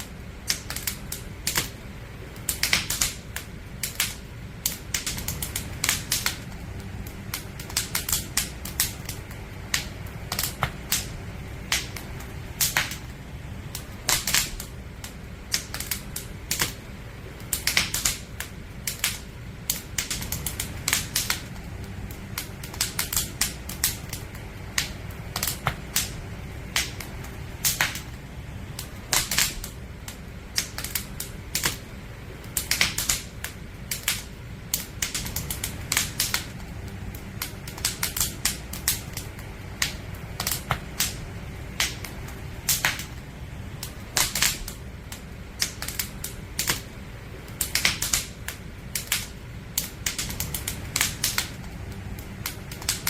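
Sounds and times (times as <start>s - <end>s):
firewood crackling and popping: 0.0s - 53.0s
low rumble of fire: 0.0s - 53.0s.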